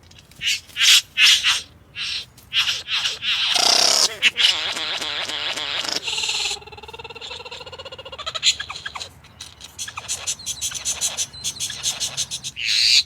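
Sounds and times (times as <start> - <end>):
bird calls: 0.0 - 13.0.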